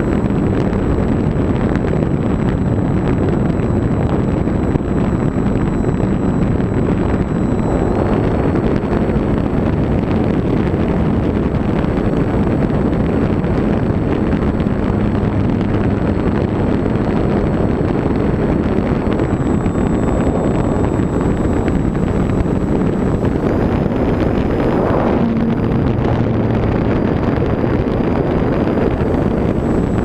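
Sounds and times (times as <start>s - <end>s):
electric motor and propeller whine: 0.0s - 30.0s
wind rush over microphone: 0.0s - 30.0s.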